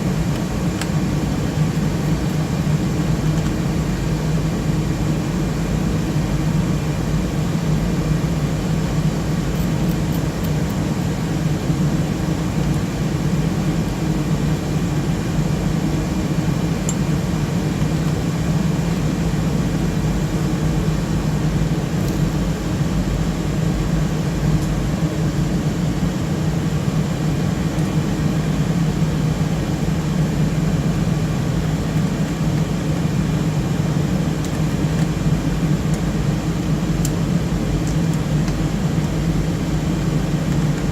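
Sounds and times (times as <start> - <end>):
cooling fans whirring: 0.0 - 40.9.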